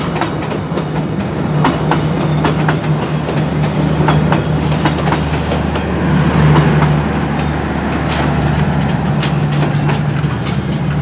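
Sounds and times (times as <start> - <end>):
train wheels clicking and clacking: 0.0 - 11.0.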